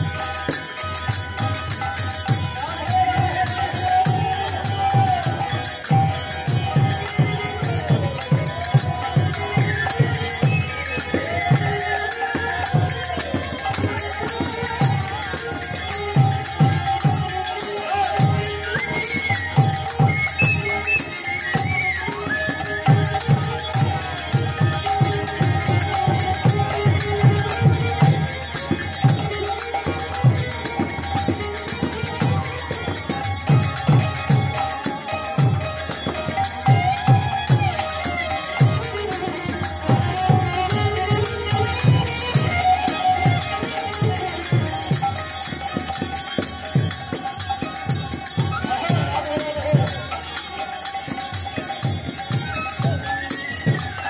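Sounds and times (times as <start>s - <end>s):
drum beating steady rhythm: 0.0s - 54.0s
hand cymbals ringing: 0.0s - 54.0s
held melodic tones: 0.0s - 54.0s.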